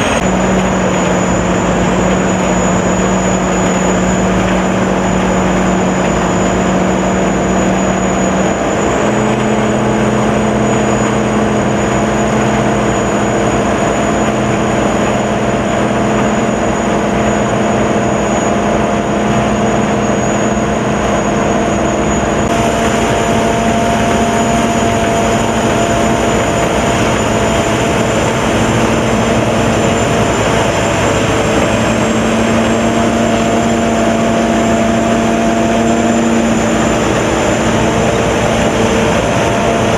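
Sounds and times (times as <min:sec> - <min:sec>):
combine harvester engine drone: 0:00.0 - 0:39.9
thin high whine: 0:00.0 - 0:39.9.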